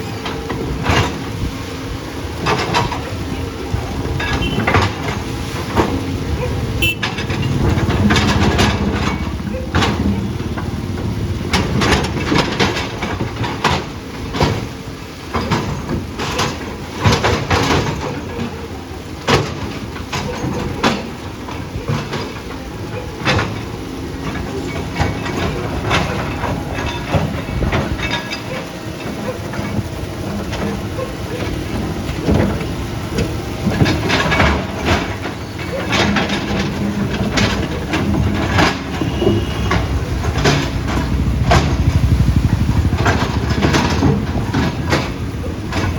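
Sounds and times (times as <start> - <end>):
heavy machine engine running: 0.0 - 45.9
metallic clanks from tracks: 0.0 - 45.9.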